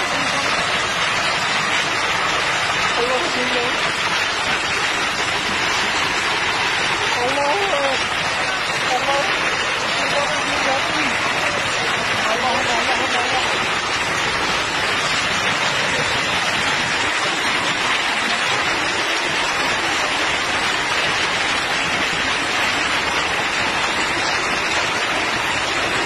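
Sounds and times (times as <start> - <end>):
torrential rain: 0.0 - 26.0.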